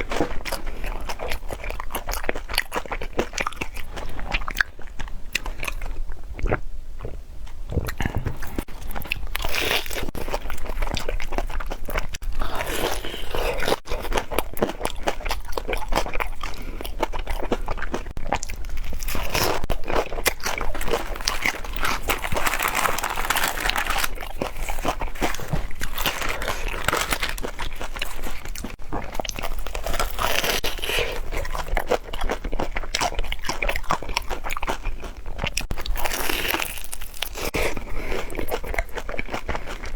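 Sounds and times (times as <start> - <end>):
crunching and chewing fried food: 0.0 - 39.9.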